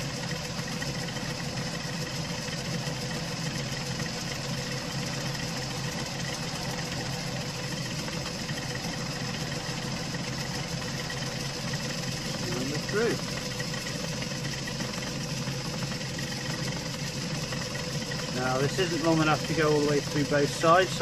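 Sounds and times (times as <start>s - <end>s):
metal lathe motor whine: 0.0s - 21.0s.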